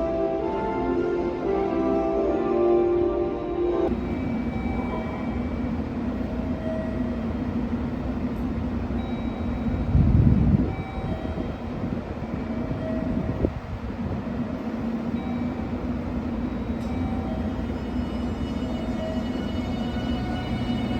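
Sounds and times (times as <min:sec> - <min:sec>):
train rumbling on track: 0:00.0 - 0:20.9.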